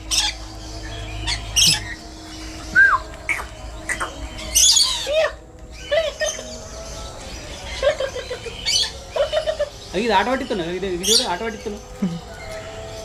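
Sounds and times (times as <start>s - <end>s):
lorikeets screeching and chirping: 0.0s - 13.0s.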